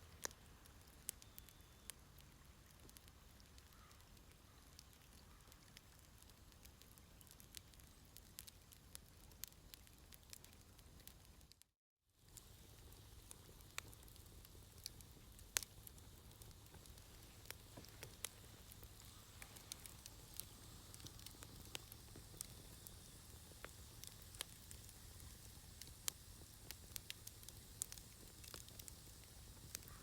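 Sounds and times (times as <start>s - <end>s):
wood fire crackling and popping: 0.0s - 11.6s, 12.2s - 30.0s
soft fire hiss: 0.0s - 30.0s.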